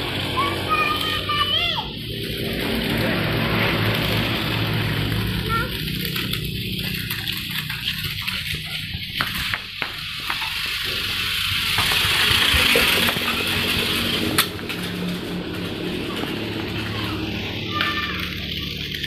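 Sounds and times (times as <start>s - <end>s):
toy car motor whirring: 0.0s - 19.0s
wheels rattling on paving: 0.0s - 19.0s.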